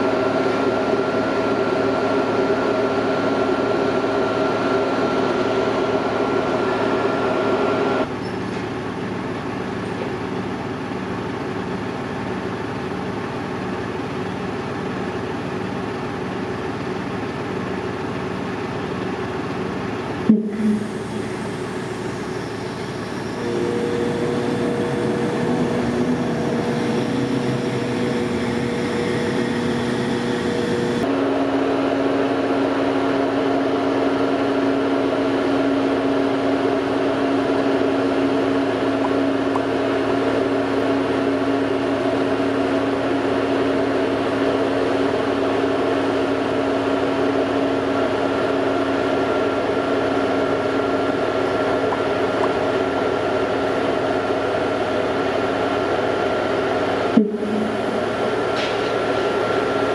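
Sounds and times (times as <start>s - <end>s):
crane engine humming: 0.0s - 59.9s.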